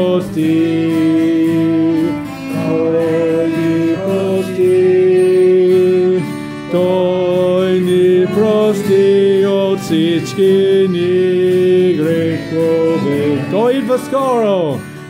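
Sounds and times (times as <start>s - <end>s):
group singing a hymn in unison: 0.0s - 13.4s.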